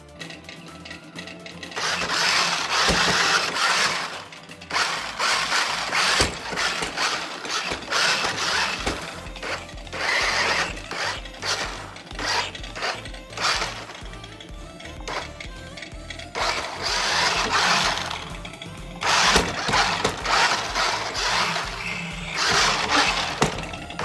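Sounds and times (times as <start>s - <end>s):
toy truck motors whirring: 0.0s - 24.0s.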